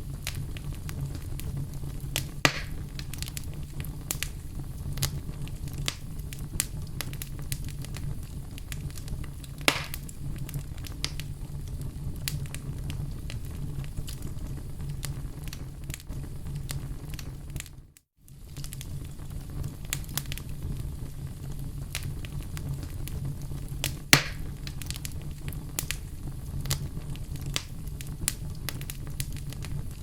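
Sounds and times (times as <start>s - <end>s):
flames rumbling: 0.0s - 30.0s
wood fire crackling: 0.0s - 30.0s.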